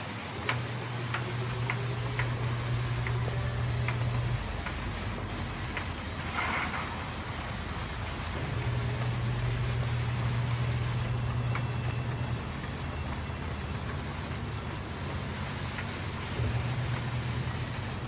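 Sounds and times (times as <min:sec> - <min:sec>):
band saw cutting log: 0:00.4 - 0:18.0
low hum: 0:00.4 - 0:18.0.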